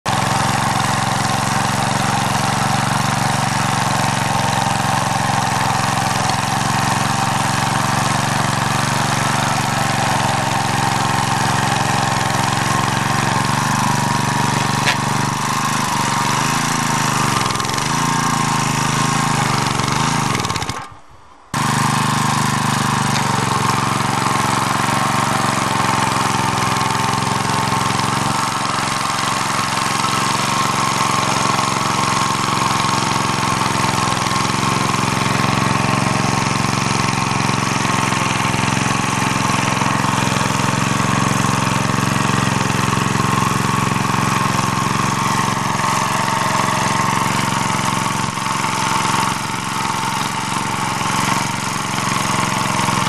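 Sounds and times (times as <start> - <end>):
rotary tiller cutting soil: 0.1 - 53.0
walk-behind tractor engine running: 0.1 - 53.0.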